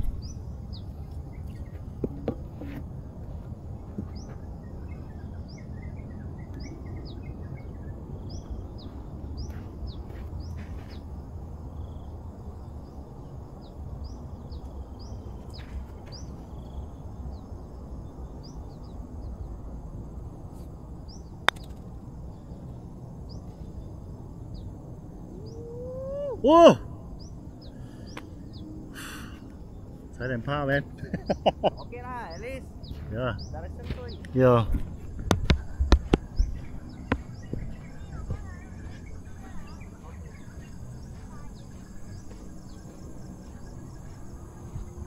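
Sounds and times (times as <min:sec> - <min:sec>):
birds chirping: 0:00.0 - 0:45.0
low background rumble: 0:00.0 - 0:45.0.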